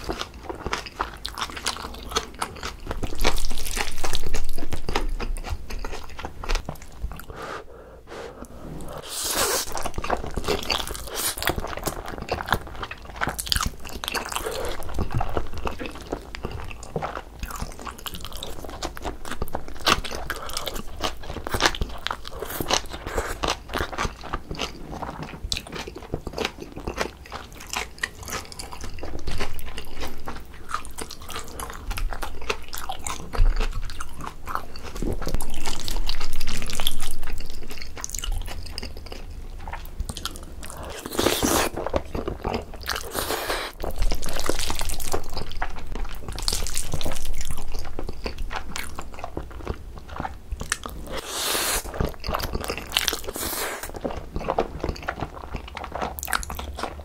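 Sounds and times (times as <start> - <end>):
person slurping and chewing noodles: 0.0 - 57.0.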